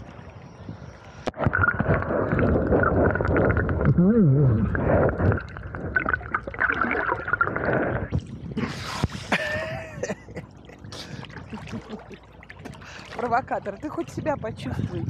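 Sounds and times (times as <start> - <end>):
underwater gurgling and bubbling: 0.0 - 9.3, 10.2 - 15.0
water lapping: 0.0 - 15.0
water splashing: 1.0 - 15.0.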